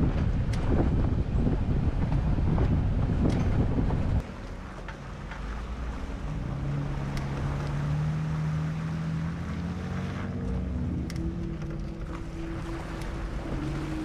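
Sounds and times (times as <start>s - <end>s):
off-road engine running at low revs: 0.0s - 14.0s
water sloshing and splashing: 0.0s - 14.0s.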